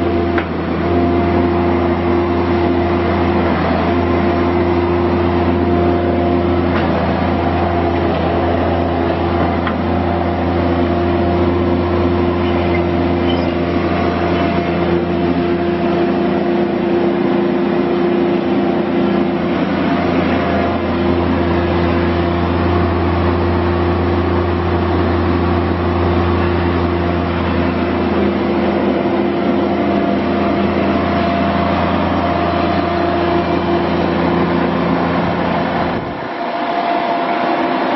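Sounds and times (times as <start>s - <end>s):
diesel engine running steadily: 0.0s - 37.9s.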